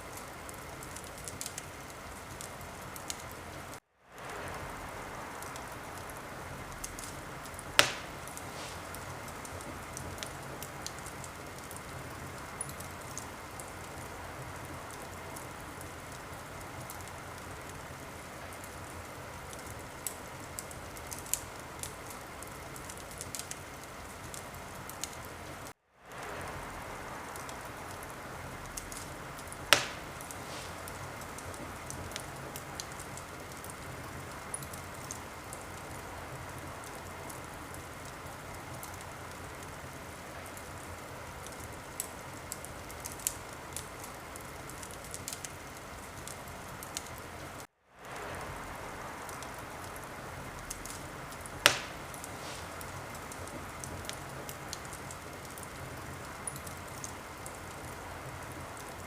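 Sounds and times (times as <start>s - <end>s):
fire crackling in a fireplace: 0.0s - 59.0s
loud sharp cracks of fire: 0.0s - 59.0s.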